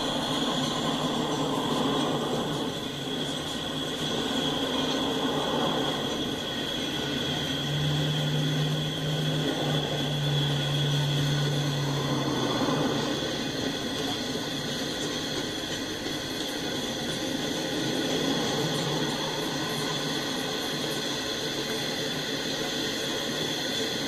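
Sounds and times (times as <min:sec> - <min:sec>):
thin high whine: 0:00.0 - 0:24.0
train wheels on rail: 0:00.0 - 0:24.0.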